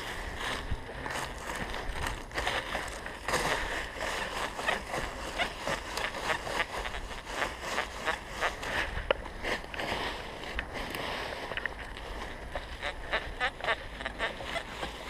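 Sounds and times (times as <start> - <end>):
dry leaves rustling: 0.0 - 15.0.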